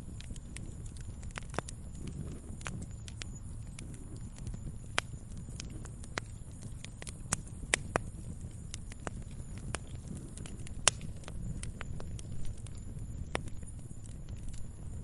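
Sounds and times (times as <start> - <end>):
campfire crackling: 0.0 - 15.0
low rumble of flames: 0.0 - 15.0.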